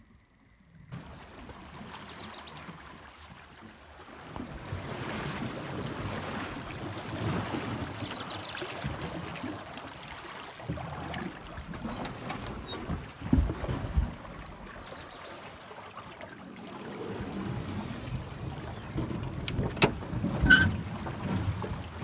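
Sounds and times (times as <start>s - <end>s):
river current rushing and splashing: 0.9s - 22.0s.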